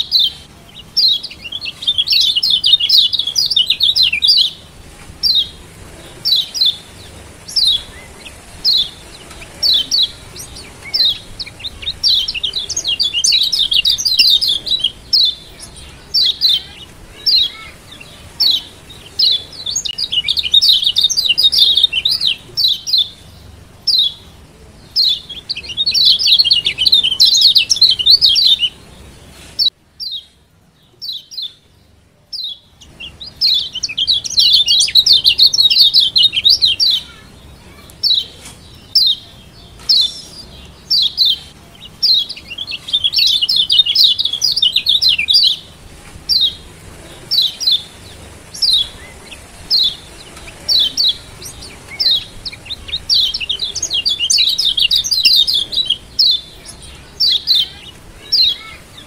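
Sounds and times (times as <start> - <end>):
bird chips and twittering: 0.0 - 59.0.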